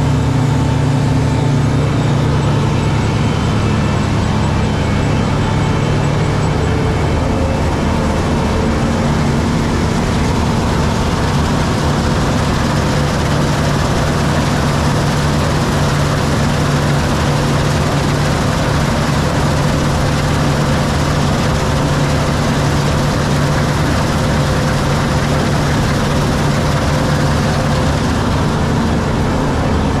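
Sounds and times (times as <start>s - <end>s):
diesel engine hum: 0.0s - 30.0s
threshing machinery rush: 6.0s - 30.0s.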